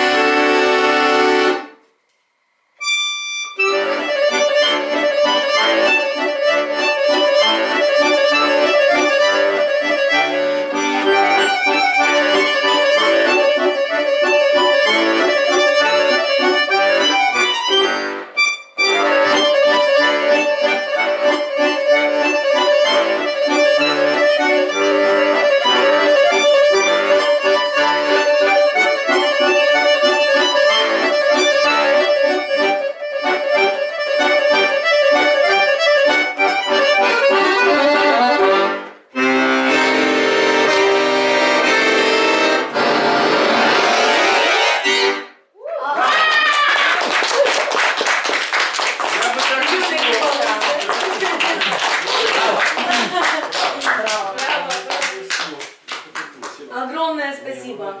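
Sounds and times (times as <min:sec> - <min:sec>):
accordion playing: 0:00.0 - 0:01.9, 0:02.8 - 0:45.6, 0:47.3 - 0:54.9.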